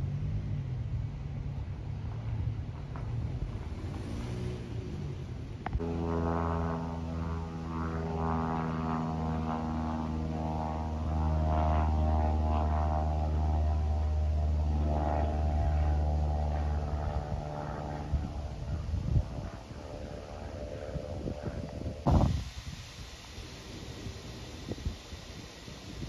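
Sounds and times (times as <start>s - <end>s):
propeller airplane droning: 0.0s - 26.0s.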